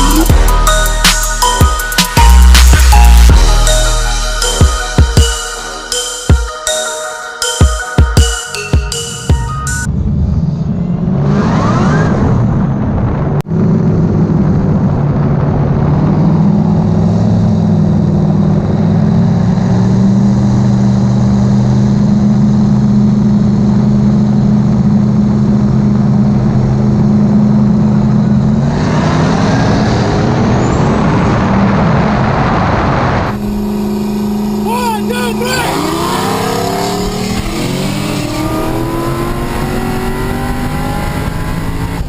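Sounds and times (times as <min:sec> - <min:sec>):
car engine running: 0:00.0 - 0:06.6, 0:12.5 - 0:42.0.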